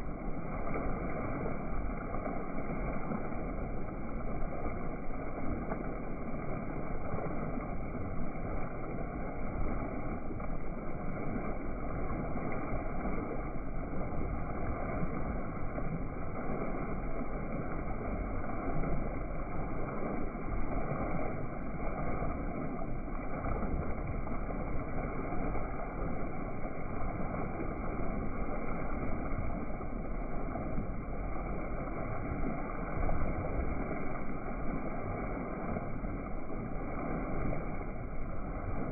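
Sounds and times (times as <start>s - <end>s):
boat rushing through water: 0.0s - 38.9s
water gurgling along hull: 0.0s - 38.9s.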